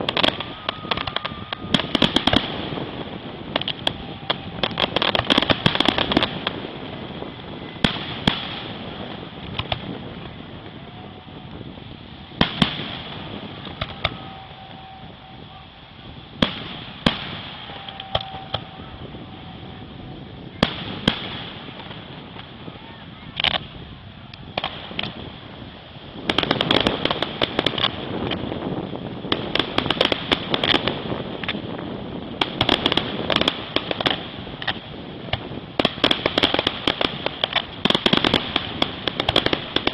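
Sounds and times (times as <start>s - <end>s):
firework shells bursting: 0.0s - 10.8s, 11.4s - 19.2s, 24.4s - 25.3s, 26.2s - 39.9s
rapid crackling fireworks: 0.0s - 39.9s.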